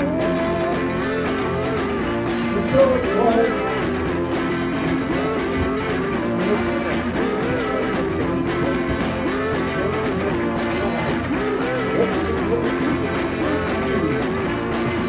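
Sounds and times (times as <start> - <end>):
background song: 0.0 - 15.0.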